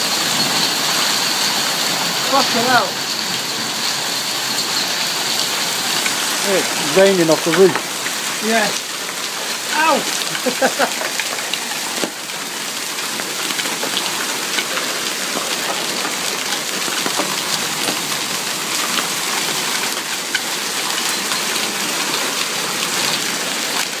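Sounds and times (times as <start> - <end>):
hailstones striking: 0.0 - 24.0
rain hissing: 0.0 - 24.0.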